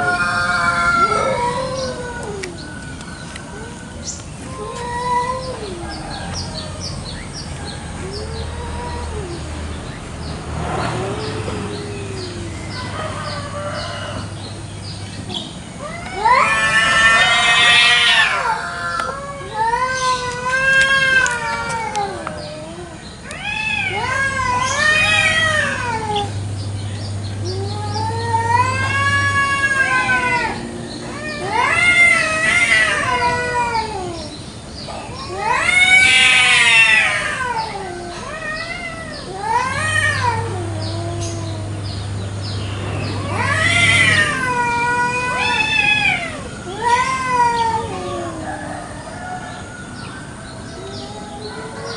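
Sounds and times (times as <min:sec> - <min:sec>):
cats yowling: 0:00.0 - 0:10.0, 0:10.6 - 0:51.9.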